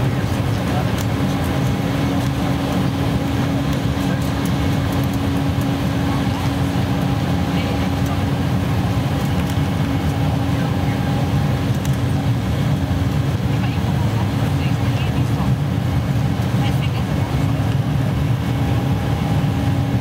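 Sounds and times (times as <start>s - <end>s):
jet engine noise: 0.0s - 20.0s
steady low hum: 0.0s - 20.0s.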